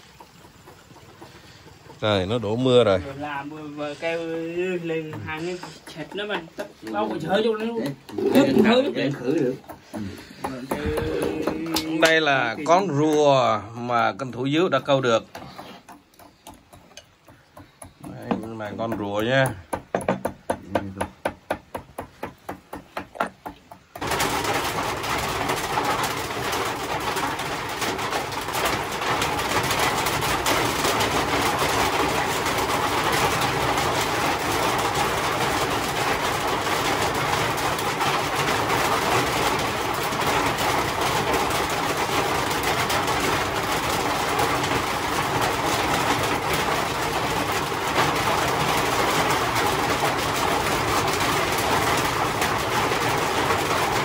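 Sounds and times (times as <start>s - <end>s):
heavy rain: 0.0s - 15.4s, 23.8s - 54.0s.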